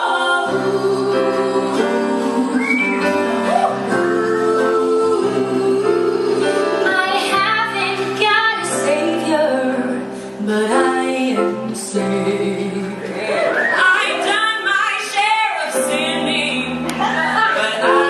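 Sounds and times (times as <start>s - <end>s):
women singing in harmony: 0.0s - 18.0s.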